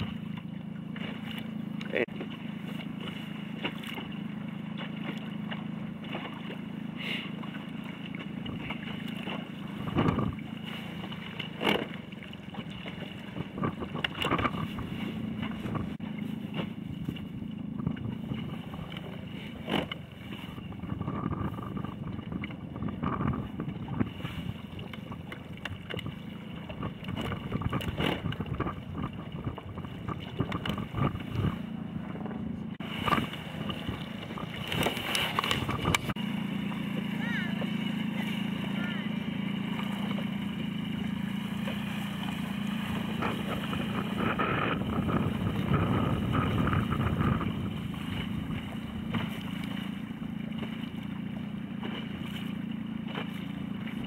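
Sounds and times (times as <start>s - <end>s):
outboard motor humming: 0.0s - 54.0s
water slapping against hull: 0.0s - 54.0s.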